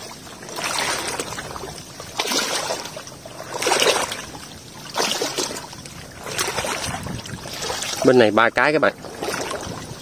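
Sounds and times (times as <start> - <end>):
water sloshing from wading: 0.0 - 10.0.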